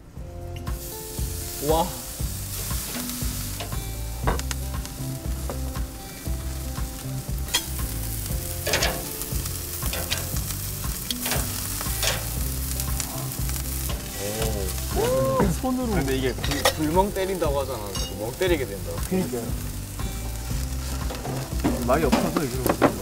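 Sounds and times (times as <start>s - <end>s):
meat sizzling on a grill: 0.2s - 23.0s.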